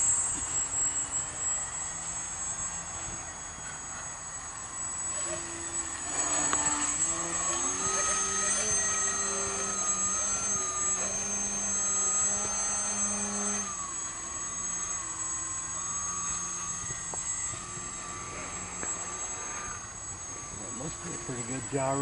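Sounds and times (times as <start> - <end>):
model plane motor whine: 0.0 - 22.0.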